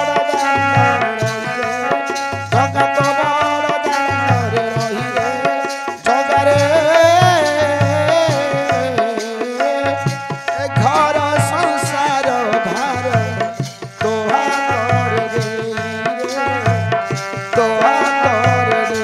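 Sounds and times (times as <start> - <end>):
hand cymbals: 0.0 - 19.0.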